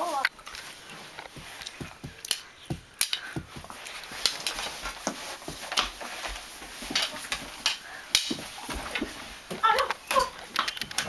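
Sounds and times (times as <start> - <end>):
scuffling on carpet: 0.0 - 9.8
hockey sticks hitting tennis ball: 0.1 - 11.0.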